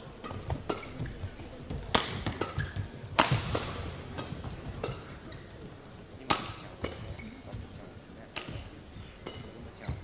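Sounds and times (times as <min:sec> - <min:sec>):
rackets hitting shuttlecock: 0:00.2 - 0:07.6, 0:08.2 - 0:10.0.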